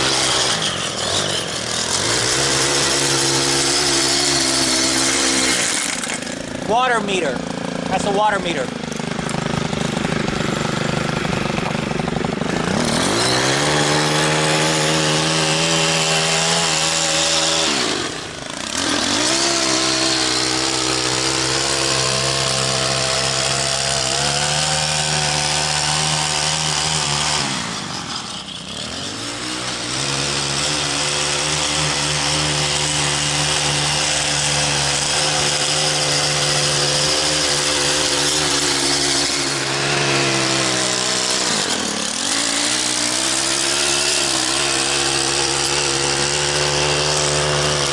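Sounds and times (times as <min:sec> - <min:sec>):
string trimmer engine revving: 0:00.0 - 0:47.9.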